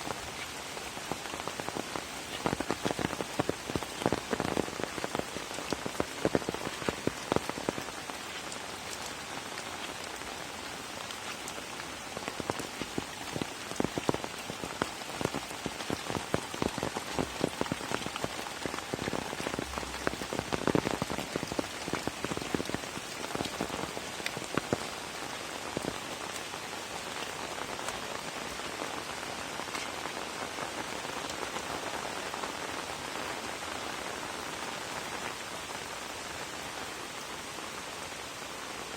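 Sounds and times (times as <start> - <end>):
raindrops splatting close by: 0.0 - 37.5
rain falling: 0.0 - 38.9.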